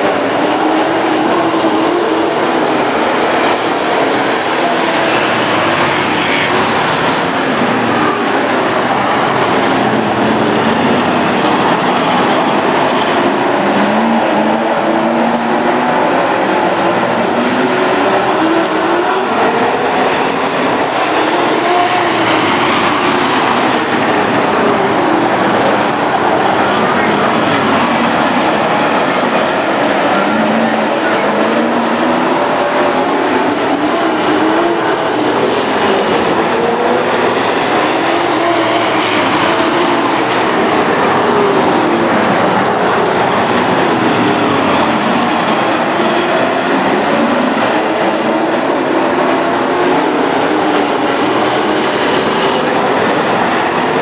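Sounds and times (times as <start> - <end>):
stock car engines racing: 0.0 - 54.0.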